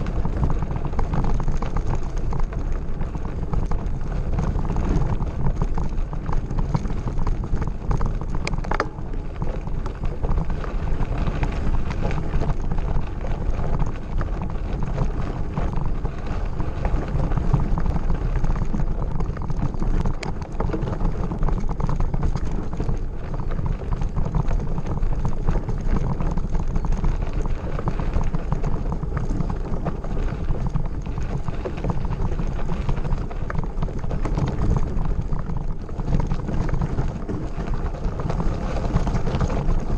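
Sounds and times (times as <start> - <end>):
bike rattling: 0.0 - 39.9
wind buffeting microphone: 0.0 - 39.9.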